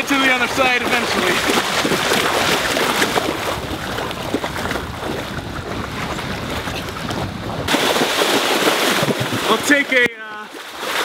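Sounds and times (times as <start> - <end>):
wind buffeting microphone: 0.0 - 9.8
water splashing and lapping: 0.0 - 11.0.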